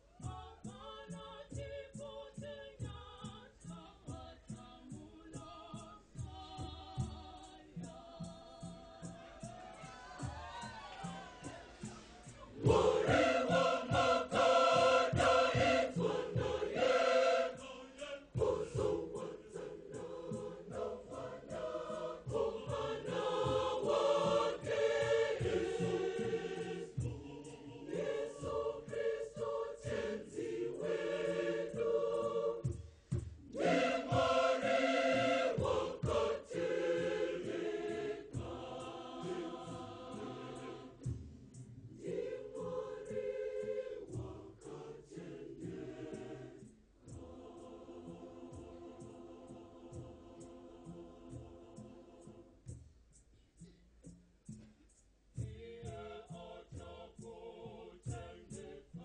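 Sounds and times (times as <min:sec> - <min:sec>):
choir singing a hymn: 0:00.0 - 0:52.8, 0:55.4 - 0:59.0.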